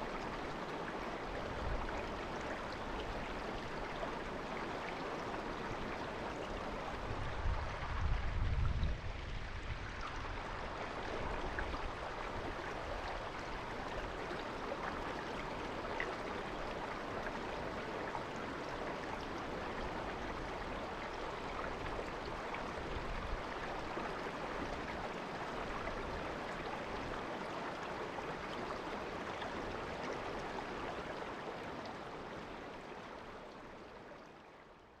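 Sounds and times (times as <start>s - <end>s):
stream babbling: 0.0s - 8.0s, 9.8s - 35.0s.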